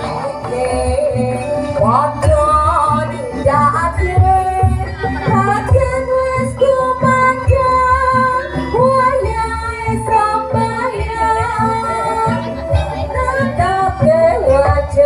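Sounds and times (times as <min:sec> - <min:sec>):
steady drum beat: 0:00.0 - 0:15.0
woman singing: 0:00.0 - 0:15.0.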